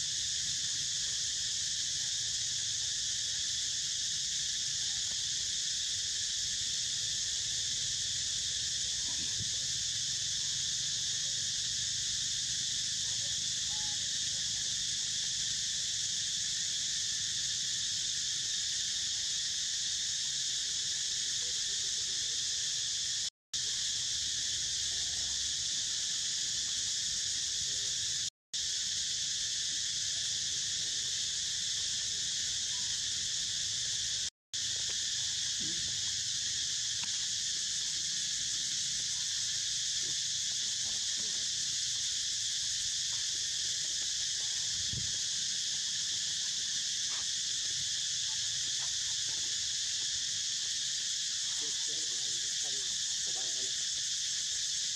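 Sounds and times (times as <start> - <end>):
high-pitched insect chorus: 0.0 - 54.9.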